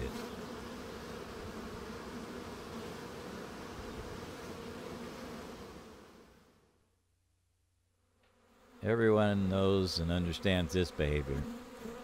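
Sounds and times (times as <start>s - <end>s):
honeybees buzzing: 0.0s - 6.6s, 8.2s - 12.0s.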